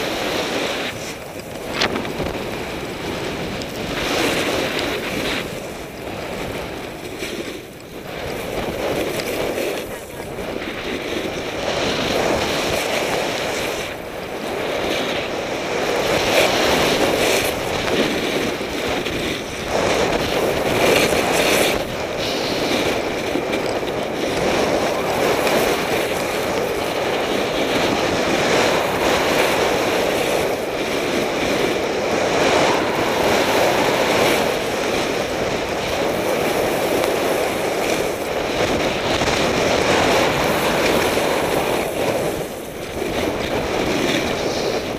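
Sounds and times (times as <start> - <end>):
snowboard sliding over snow: 0.0 - 44.9
wind on microphone: 0.0 - 44.9.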